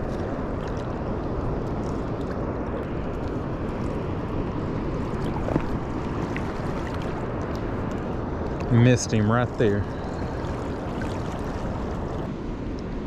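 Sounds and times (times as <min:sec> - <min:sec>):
river water rushing: 0:00.0 - 0:12.4
wind on microphone: 0:00.0 - 0:13.0.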